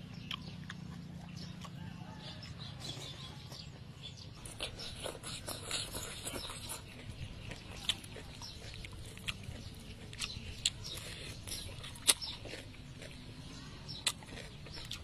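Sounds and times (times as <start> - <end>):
wet chewing and lip smacking: 0.0 - 15.0.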